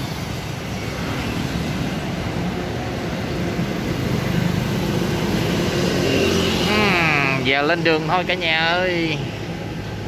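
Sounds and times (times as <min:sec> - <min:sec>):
traffic rush: 0:00.0 - 0:10.0.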